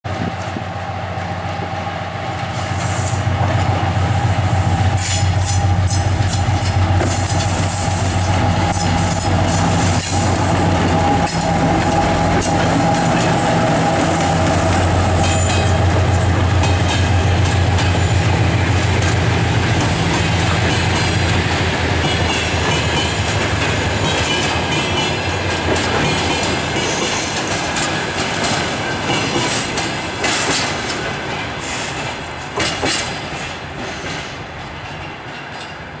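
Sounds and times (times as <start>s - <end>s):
diesel locomotive engine humming: 0.1s - 36.0s
wagons clacking over rail joints: 4.8s - 35.8s.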